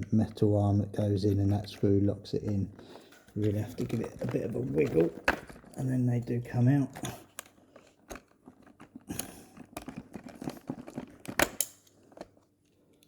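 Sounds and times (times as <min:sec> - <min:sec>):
plastic clicks and rattles: 0:01.4 - 0:13.0.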